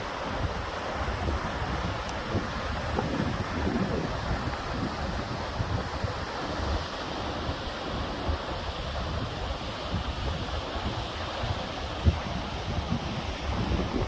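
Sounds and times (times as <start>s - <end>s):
waterfall roaring: 0.0s - 14.0s
wind buffeting microphone: 0.3s - 14.0s.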